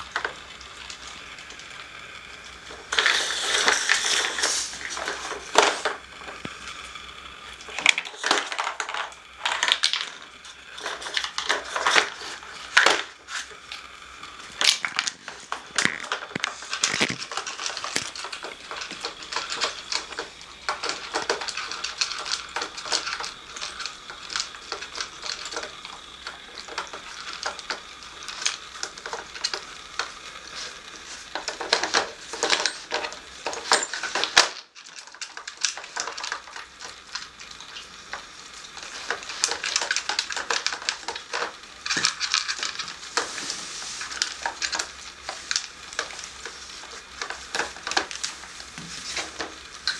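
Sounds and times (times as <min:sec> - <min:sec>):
plastic puzzle pieces clattering: 0:00.0 - 0:49.9.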